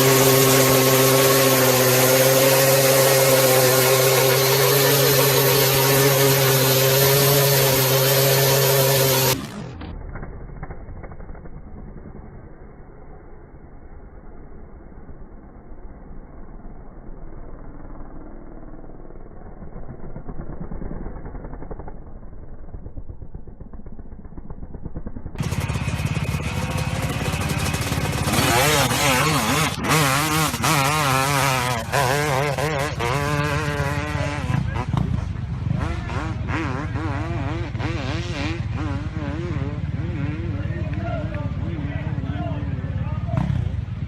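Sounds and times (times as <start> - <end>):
dirt bike engine revving: 0.0 - 12.8, 18.2 - 44.0.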